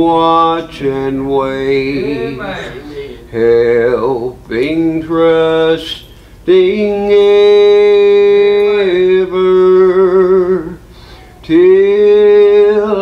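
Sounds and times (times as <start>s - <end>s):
man singing a hymn: 0.0s - 13.0s.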